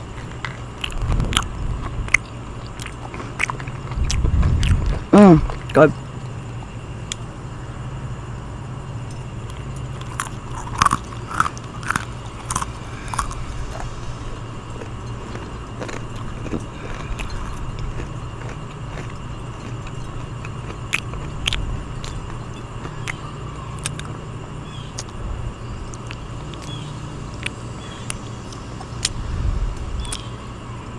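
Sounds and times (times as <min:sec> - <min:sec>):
person chewing and biting food: 0:00.0 - 0:06.0, 0:09.5 - 0:25.2, 0:25.9 - 0:30.3
steady low hum: 0:00.0 - 0:30.9.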